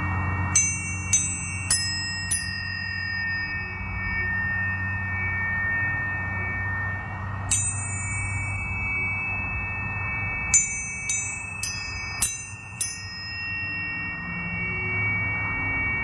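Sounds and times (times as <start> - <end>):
tuning forks ringing: 0.0 - 16.0.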